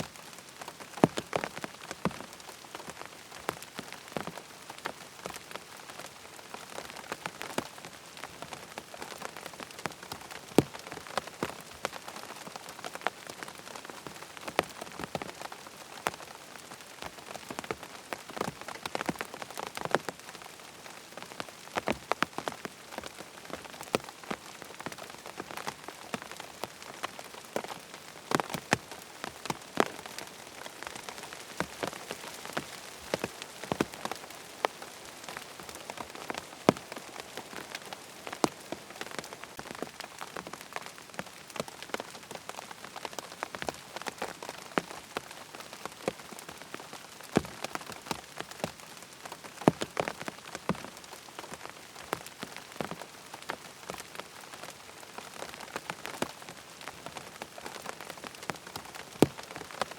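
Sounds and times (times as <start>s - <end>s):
rain hissing on tent fabric: 0.0s - 59.9s.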